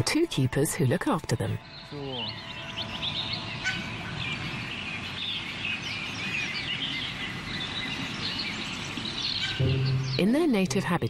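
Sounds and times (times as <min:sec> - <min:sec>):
low outdoor background noise: 0:00.0 - 0:11.0
small birds chirping: 0:00.4 - 0:11.0.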